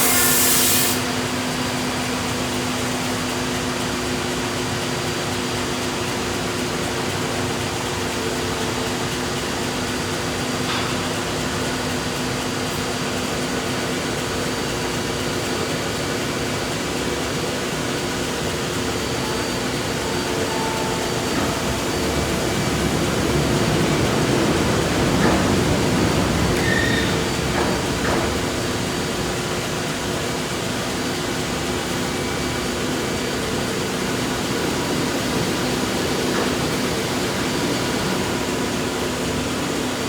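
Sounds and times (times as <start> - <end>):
bandsaw mill running: 2.8 - 40.0.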